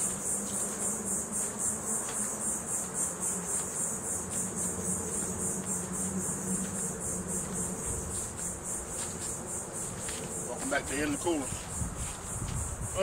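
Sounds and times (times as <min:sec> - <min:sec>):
insects chorus pulsing: 0:00.0 - 0:13.0.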